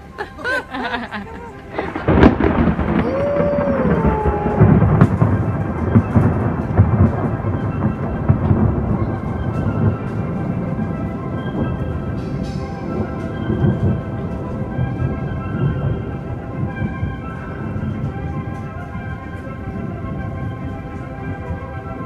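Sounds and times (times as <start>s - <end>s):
thunder crack and rolling rumble: 0.7s - 22.0s.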